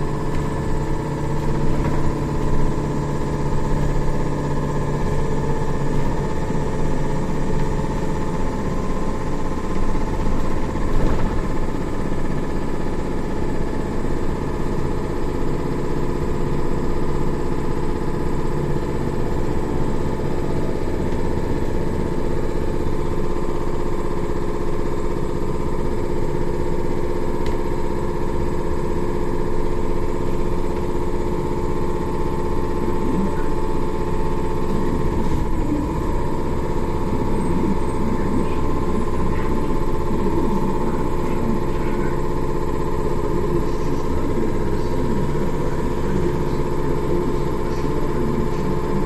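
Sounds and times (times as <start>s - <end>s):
bus rumble: 0.0s - 49.0s.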